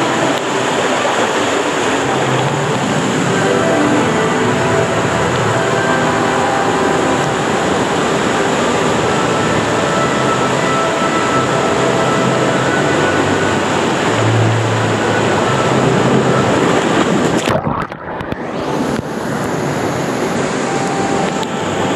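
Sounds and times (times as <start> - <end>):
pool water sloshing: 0.0 - 21.9
water rushing down a slide: 0.0 - 21.9.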